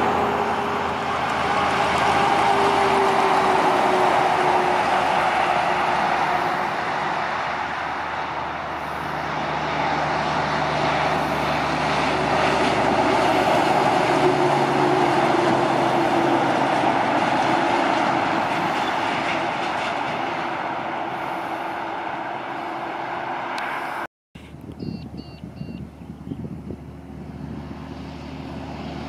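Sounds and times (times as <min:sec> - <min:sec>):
truck diesel engine: 0:00.0 - 0:24.1, 0:26.4 - 0:29.0
rolling tyre noise: 0:00.0 - 0:24.8.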